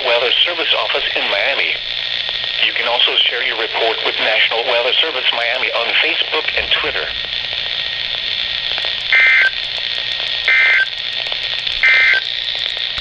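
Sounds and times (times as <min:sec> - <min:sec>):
radio static: 0:00.0 - 0:13.0
warbling data tones: 0:00.1 - 0:13.0.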